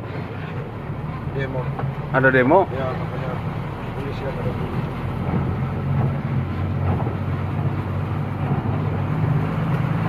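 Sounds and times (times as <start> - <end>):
truck engine humming: 0.0 - 10.0.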